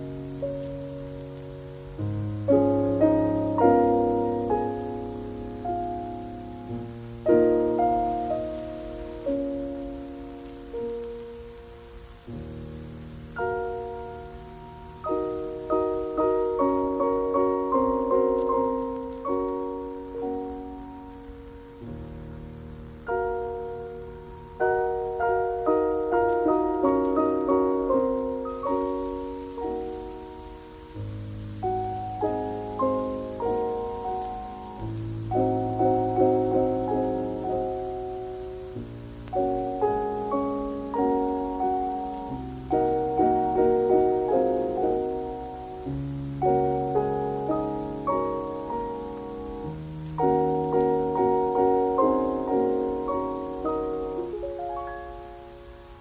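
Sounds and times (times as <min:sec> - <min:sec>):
slow piano music: 0:00.0 - 0:56.0.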